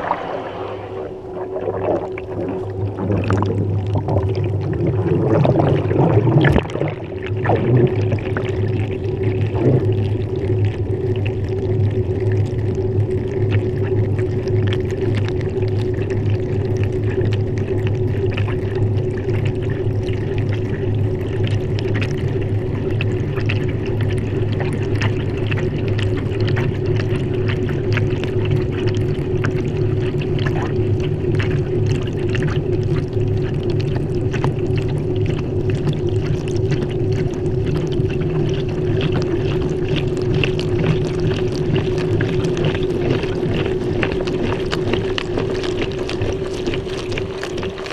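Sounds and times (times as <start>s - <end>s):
washing machine hum: 0.0s - 47.9s
water splashing in washing machine: 0.0s - 47.9s.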